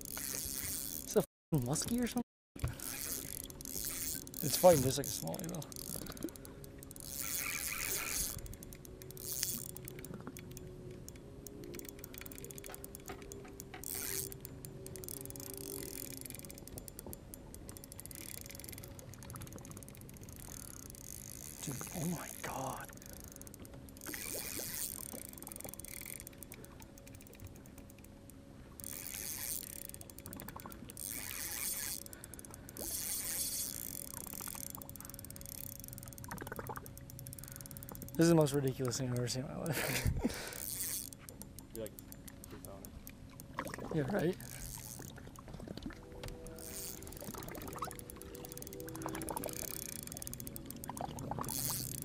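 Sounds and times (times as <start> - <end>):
fishing reel ticking: 0.0 - 45.2, 46.2 - 52.0
low hum: 2.6 - 52.0.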